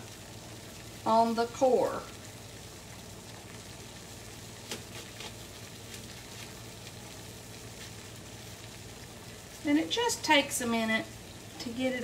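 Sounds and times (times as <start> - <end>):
kitchen background hiss and hum: 0.0 - 12.0.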